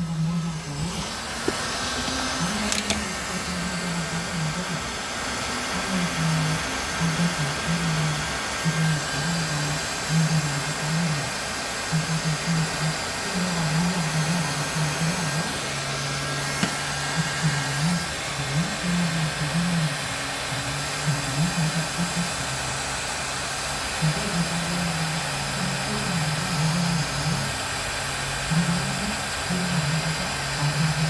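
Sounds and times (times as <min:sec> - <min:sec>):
heat gun blowing: 0:00.0 - 0:31.0
low motor hum: 0:00.0 - 0:31.0.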